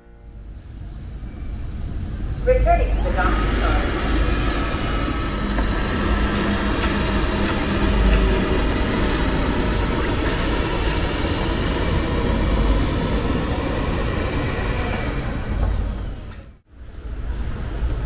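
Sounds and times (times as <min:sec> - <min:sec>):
faint high whining tones: 0:00.0 - 0:16.6.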